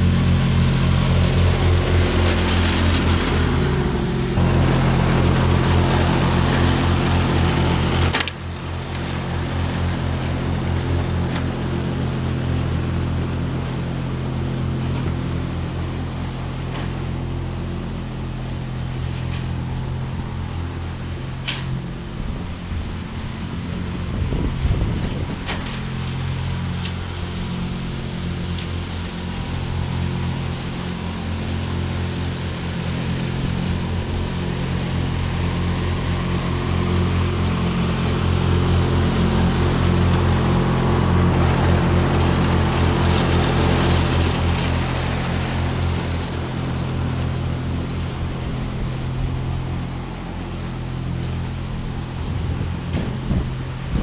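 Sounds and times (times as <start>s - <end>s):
ride-on lawn mower engine: 0.0s - 54.0s.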